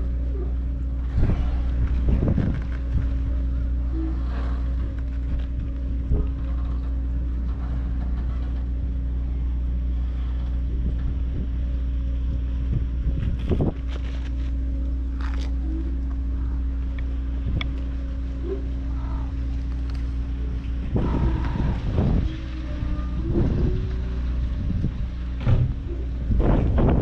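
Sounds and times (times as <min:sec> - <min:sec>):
boat engine idling hum: 0:00.0 - 0:27.0.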